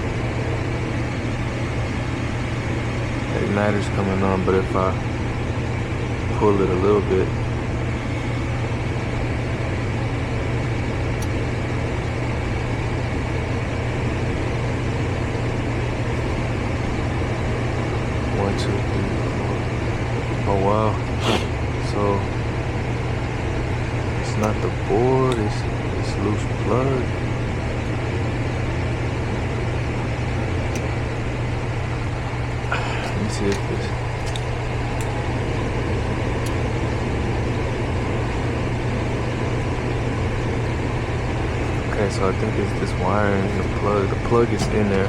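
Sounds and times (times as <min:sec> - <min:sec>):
fan air rushing: 0:00.0 - 0:45.0
furnace motor whirring: 0:00.0 - 0:45.0
low hum: 0:00.0 - 0:45.0.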